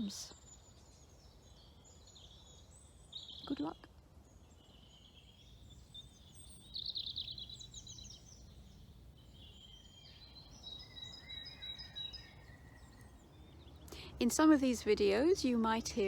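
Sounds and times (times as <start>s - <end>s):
faint low background rumble: 0.0s - 16.0s
songbirds singing: 0.0s - 16.0s.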